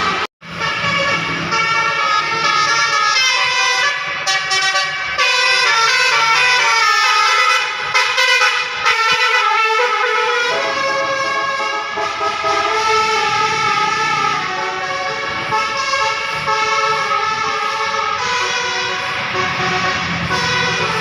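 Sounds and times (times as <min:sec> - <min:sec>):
bus air horn playing melody: 0:00.0 - 0:21.0.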